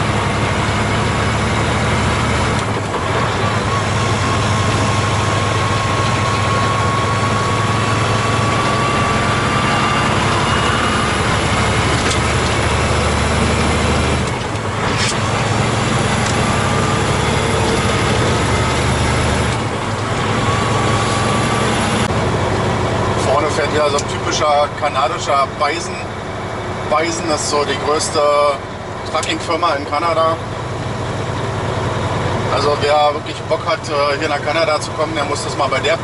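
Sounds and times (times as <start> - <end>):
road noise: 0.0 - 36.0
truck diesel engine drone: 0.0 - 36.0.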